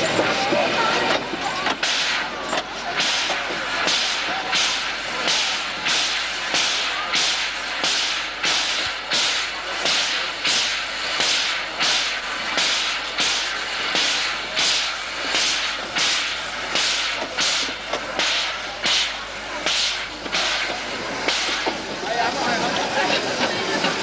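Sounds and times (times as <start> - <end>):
steam locomotive puffing: 0.0 - 24.0.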